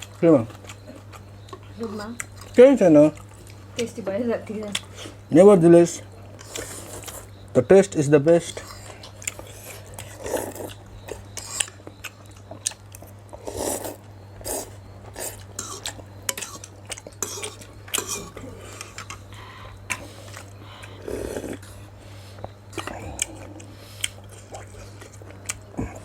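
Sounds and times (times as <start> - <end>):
chewing: 0.0 - 3.9, 4.6 - 5.3, 6.0 - 7.5, 8.5 - 26.0.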